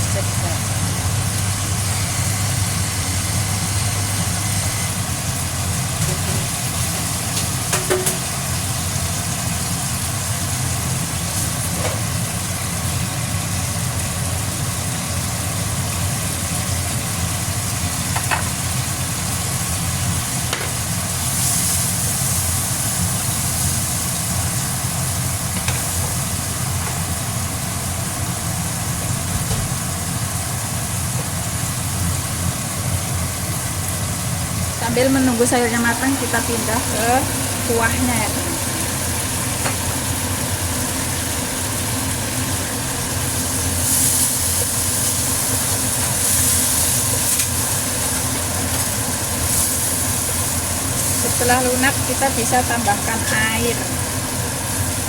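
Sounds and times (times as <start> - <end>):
tomatoes sizzling in oil: 0.0 - 55.0.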